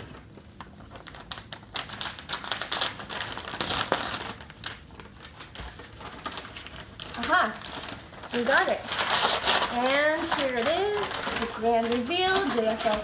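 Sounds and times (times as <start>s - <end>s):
tape peeling off paper envelope: 0.6s - 13.0s.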